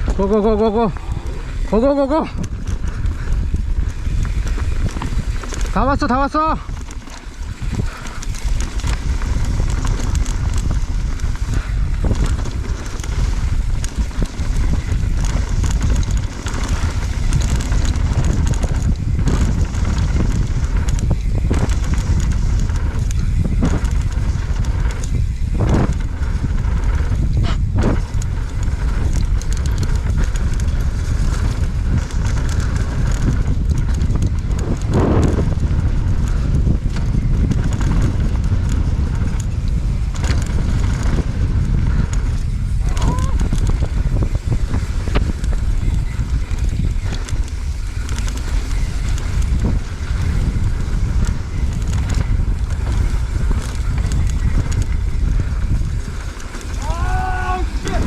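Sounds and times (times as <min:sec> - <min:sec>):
bike clattering over bumps: 0:00.0 - 0:58.0
wind rumble on microphone: 0:00.0 - 0:58.0.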